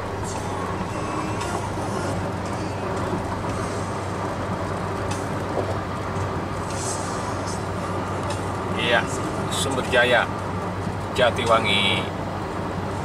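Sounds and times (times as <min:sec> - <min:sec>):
low engine drone: 0:00.0 - 0:13.0
tyre noise on road: 0:00.0 - 0:13.0.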